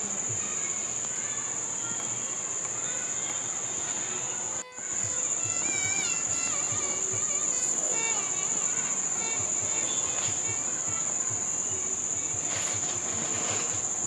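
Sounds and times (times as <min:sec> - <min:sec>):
crickets trilling: 0:00.0 - 0:14.0
faint voices: 0:00.0 - 0:14.0.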